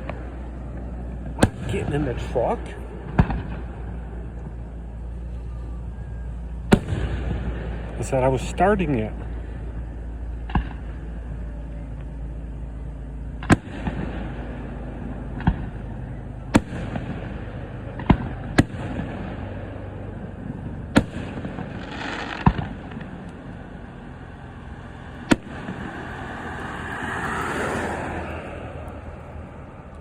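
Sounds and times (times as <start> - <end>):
fireworks bangs: 0.0 - 11.4, 13.3 - 29.2
steady low background noise: 0.0 - 30.0.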